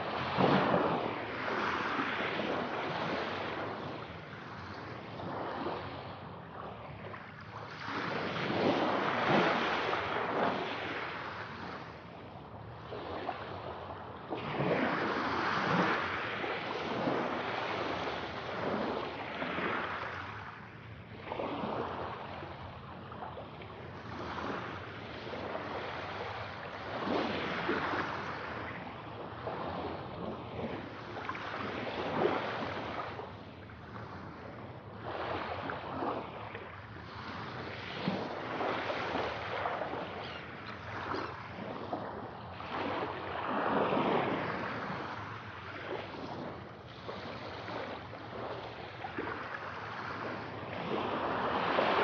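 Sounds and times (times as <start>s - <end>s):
sea waves breaking: 0.0s - 52.0s.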